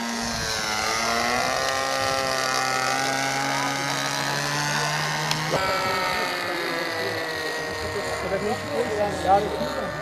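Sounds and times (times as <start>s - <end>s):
model airplane engine buzzing: 0.0s - 10.0s.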